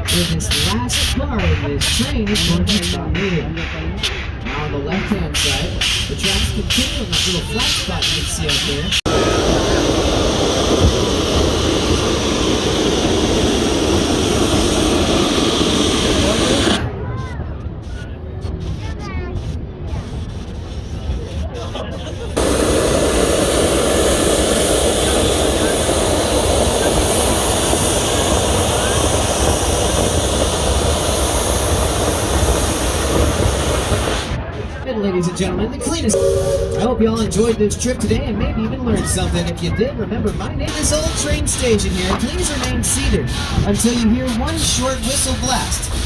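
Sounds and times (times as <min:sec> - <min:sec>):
steam train rumbling: 0:00.0 - 0:46.0.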